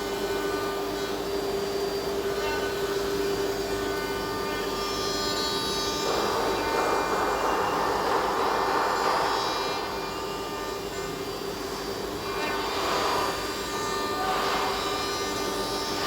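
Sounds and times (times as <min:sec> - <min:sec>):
cnc router whine: 0:00.0 - 0:16.0
router cutting noise: 0:02.4 - 0:16.0.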